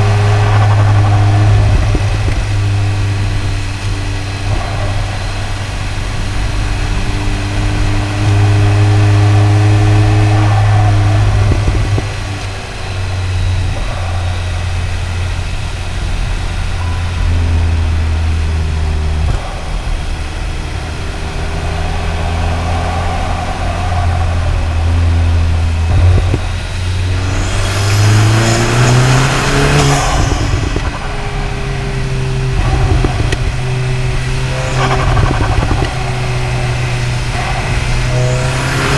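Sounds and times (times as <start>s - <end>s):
car engine cruising: 0.0s - 38.9s
intake and turbo air rush: 0.0s - 38.9s.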